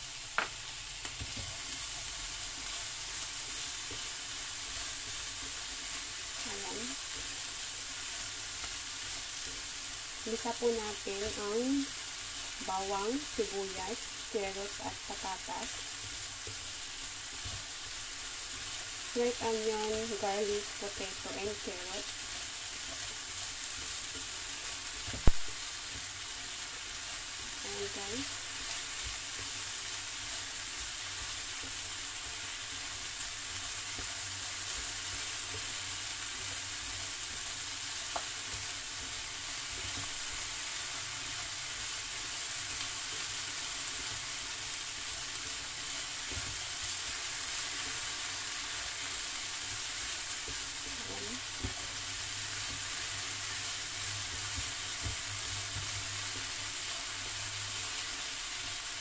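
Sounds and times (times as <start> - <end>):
vegetables sizzling in frying pan: 0.0 - 59.0.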